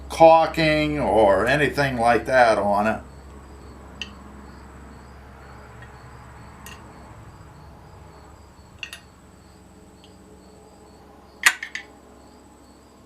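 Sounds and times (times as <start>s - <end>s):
cricket chirping: 0.0s - 13.0s
low room hum: 0.0s - 13.0s.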